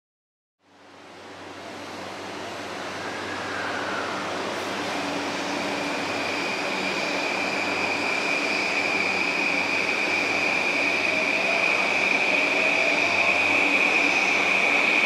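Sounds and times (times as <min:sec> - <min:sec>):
faint rising whine: 0:00.8 - 0:15.0
train rumble: 0:00.8 - 0:15.0
high-pitched squeal: 0:02.4 - 0:15.0.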